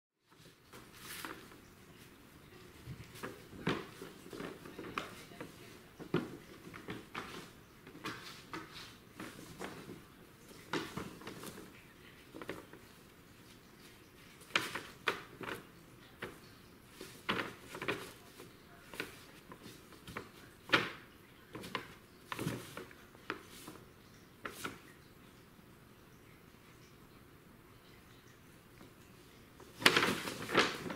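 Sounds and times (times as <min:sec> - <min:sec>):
paper rustling and crinkling: 0:00.3 - 0:25.0, 0:28.8 - 0:30.9.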